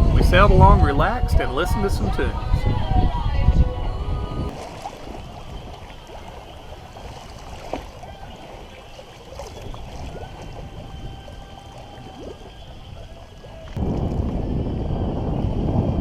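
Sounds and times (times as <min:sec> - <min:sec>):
water washing past hull: 0:00.0 - 0:16.0
wind on microphone: 0:00.0 - 0:16.0.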